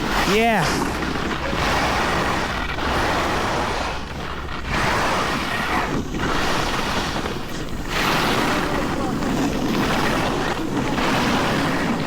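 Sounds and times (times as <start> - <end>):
skis scraping on snow: 0.0 - 12.0
wind on microphone: 0.0 - 12.0.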